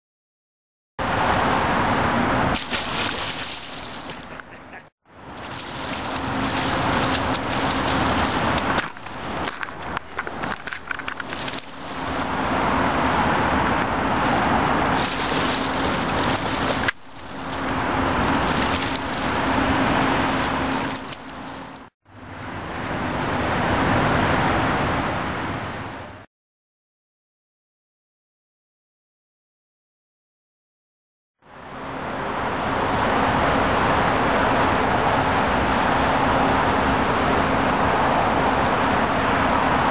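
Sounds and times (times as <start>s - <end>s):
city traffic noise: 1.0s - 26.3s, 31.4s - 39.9s.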